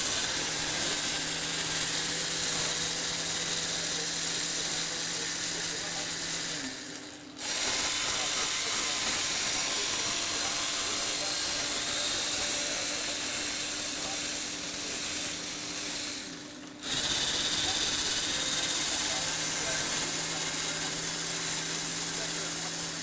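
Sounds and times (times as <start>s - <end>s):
electric motor whirring: 0.0s - 23.0s.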